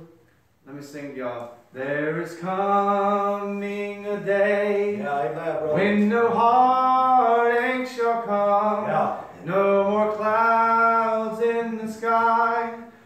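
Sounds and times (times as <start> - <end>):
man singing a hymn: 1.7 - 13.0.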